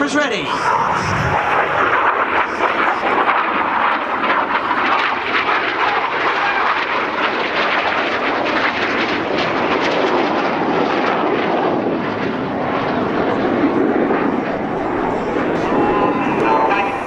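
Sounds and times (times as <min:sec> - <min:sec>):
jet aircraft rushing noise: 0:00.0 - 0:17.0.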